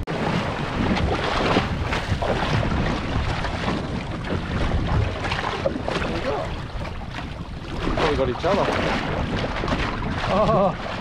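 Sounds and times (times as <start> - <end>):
choppy sea: 0.0 - 11.0
wind buffeting microphone: 0.0 - 11.0.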